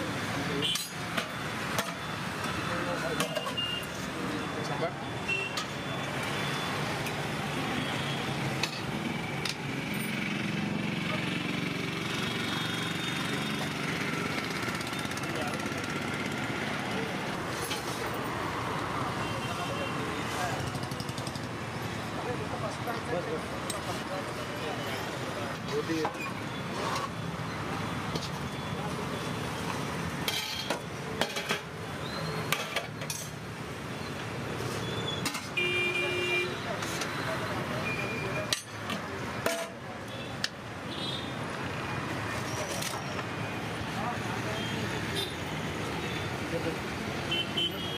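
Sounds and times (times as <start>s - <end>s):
outdoor background noise: 0.0s - 47.9s.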